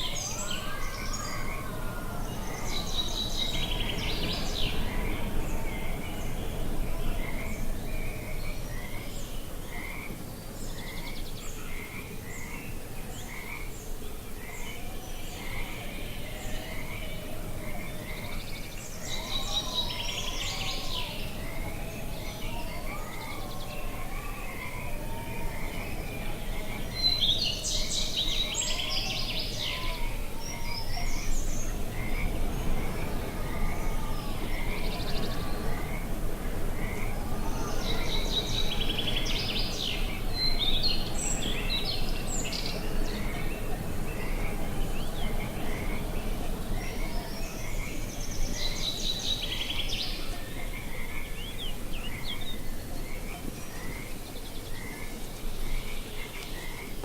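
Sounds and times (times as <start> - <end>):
birds singing: 0.0 - 57.0
low background noise: 0.0 - 57.0.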